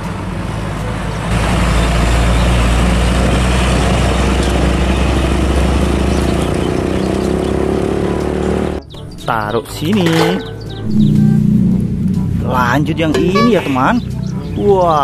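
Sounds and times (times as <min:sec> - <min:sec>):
diesel truck driving past: 0:00.0 - 0:08.8, 0:10.5 - 0:14.6.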